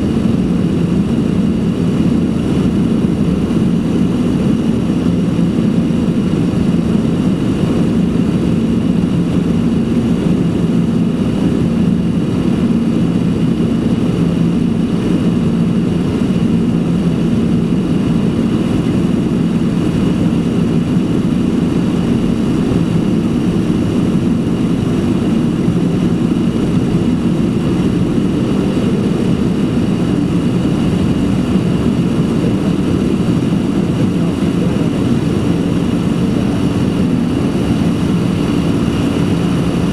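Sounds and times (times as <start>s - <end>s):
high engine whine: 0.0s - 39.9s
jet engine rumble in cabin: 0.0s - 39.9s.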